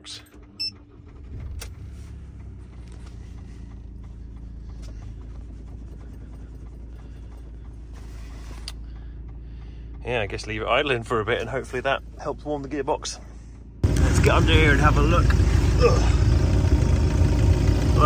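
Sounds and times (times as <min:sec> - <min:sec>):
diesel engine starting and idling: 0:00.0 - 0:18.0.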